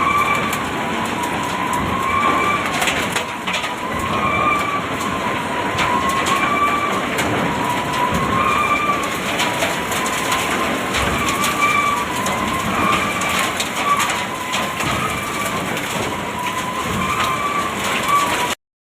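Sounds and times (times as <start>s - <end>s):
high squeal: 0.0s - 18.6s.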